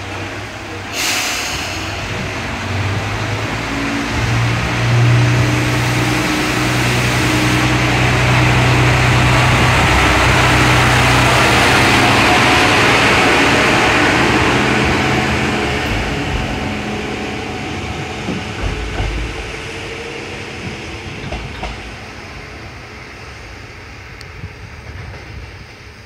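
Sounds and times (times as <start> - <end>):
diesel railcar engine running: 0.0 - 26.0.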